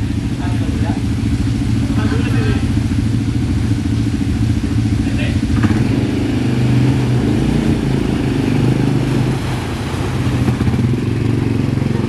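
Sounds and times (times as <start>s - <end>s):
quad bike engine at low revs: 0.0s - 12.0s.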